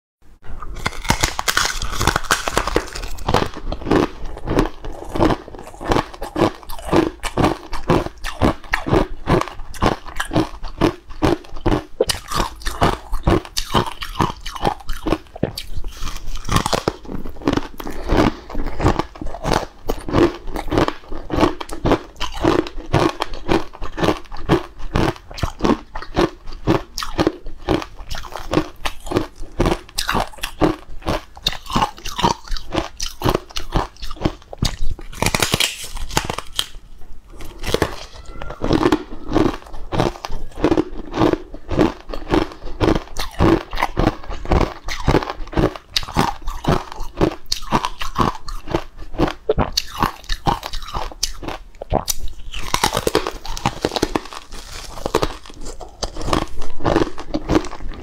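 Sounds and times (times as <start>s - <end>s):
crunching and chewing: 0.5s - 58.0s.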